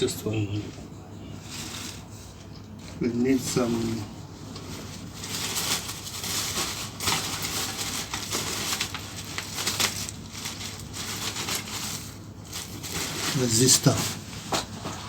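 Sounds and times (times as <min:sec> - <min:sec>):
rustling and crinkling: 0:01.4 - 0:15.0.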